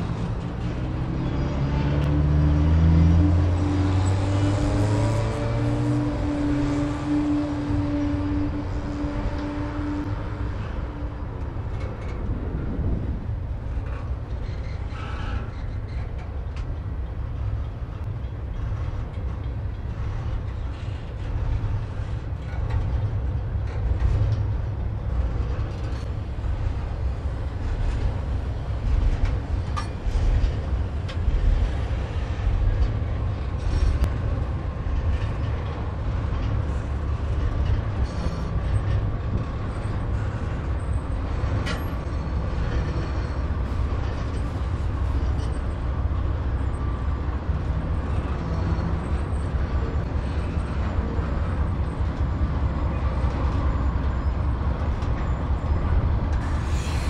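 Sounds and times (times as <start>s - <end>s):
clicks and clanks of train cars: 0.0s - 57.0s
train wheels rumbling on rail: 0.0s - 57.0s.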